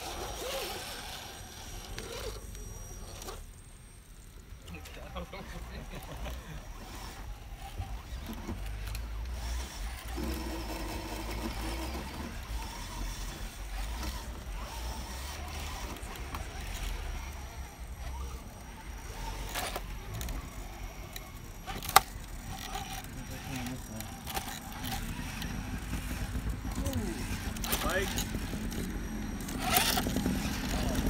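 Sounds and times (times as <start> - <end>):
toy truck motor whining: 0.0 - 31.0.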